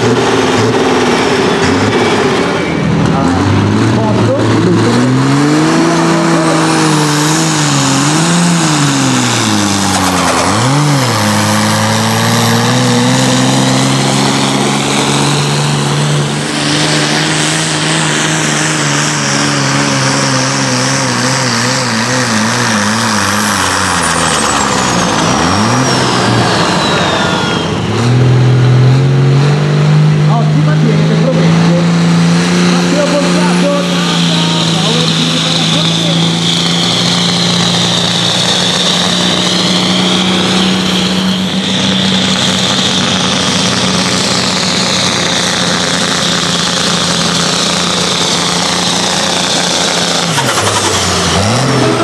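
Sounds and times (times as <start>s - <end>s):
another tractor engine: 0.0s - 52.0s
tractor engine at full throttle: 0.0s - 52.0s.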